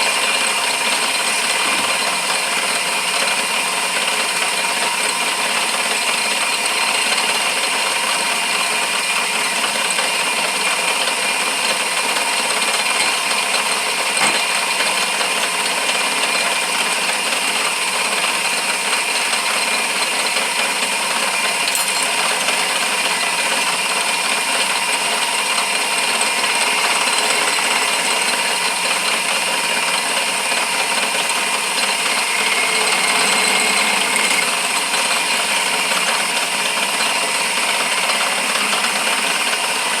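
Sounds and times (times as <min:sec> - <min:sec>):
chisel cutting wood: 0:00.0 - 0:40.0
wood lathe running: 0:00.0 - 0:40.0.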